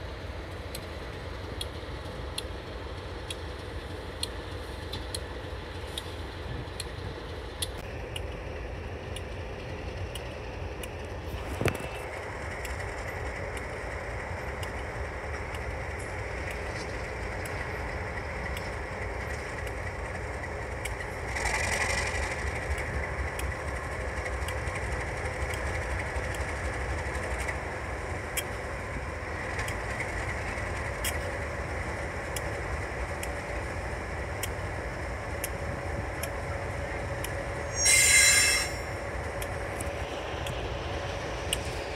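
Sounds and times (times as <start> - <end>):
locomotive engine rumbling: 0.0 - 41.9.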